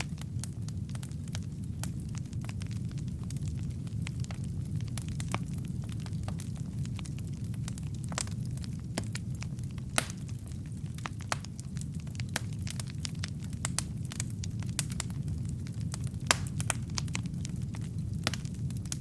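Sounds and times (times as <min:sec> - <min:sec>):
logs burning in fireplace: 0:00.0 - 0:19.0.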